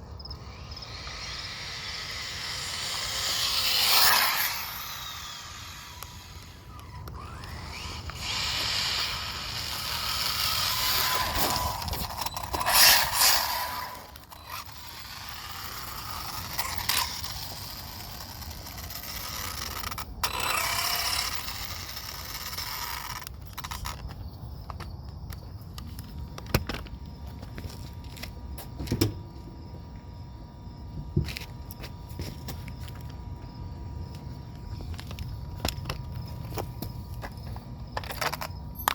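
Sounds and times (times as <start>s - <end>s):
rc car motor and tyres: 0.0s - 30.2s, 30.8s - 38.9s.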